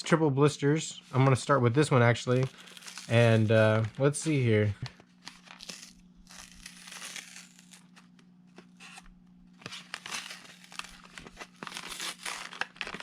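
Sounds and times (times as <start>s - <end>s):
plastic crinkling and tearing: 1.2s - 13.0s.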